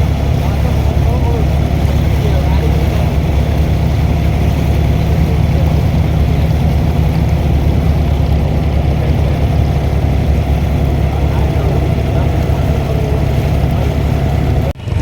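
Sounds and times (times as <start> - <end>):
diesel boat engine rumbling: 0.0 - 15.0.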